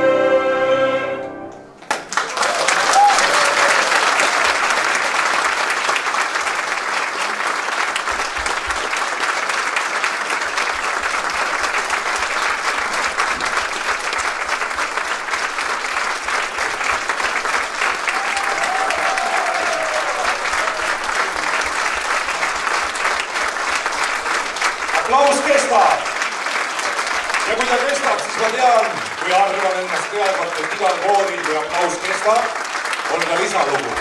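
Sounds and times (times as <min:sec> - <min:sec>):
audience applauding: 0:01.8 - 0:34.0.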